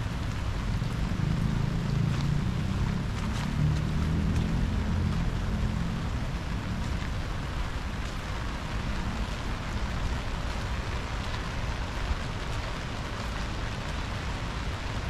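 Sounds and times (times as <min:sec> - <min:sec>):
continuous low rumble: 0:00.0 - 0:15.0
steady rain hiss: 0:00.0 - 0:15.0.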